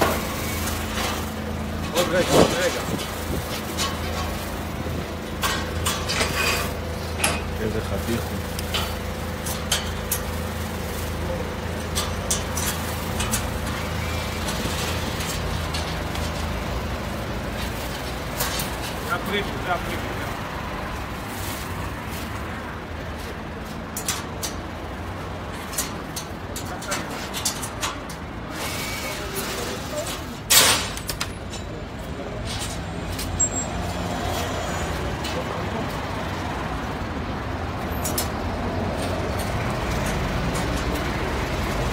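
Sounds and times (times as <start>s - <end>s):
engine idling: 0.0s - 33.7s
low street traffic rumble: 0.0s - 41.9s.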